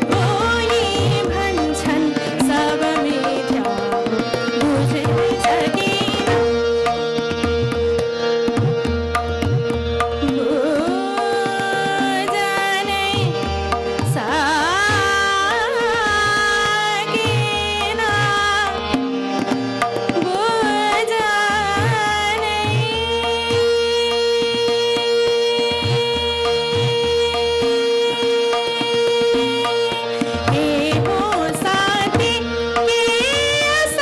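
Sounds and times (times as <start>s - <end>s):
woman singing classical vocal: 0.0s - 6.6s, 10.2s - 18.8s, 20.2s - 34.0s
harmonium melody: 0.0s - 34.0s
tabla rhythm: 0.0s - 34.0s
tanpura drone: 0.0s - 34.0s.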